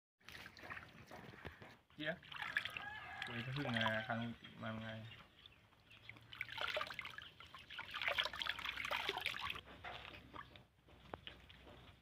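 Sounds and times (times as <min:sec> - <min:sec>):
water splashing in a basin: 0:00.2 - 0:12.0.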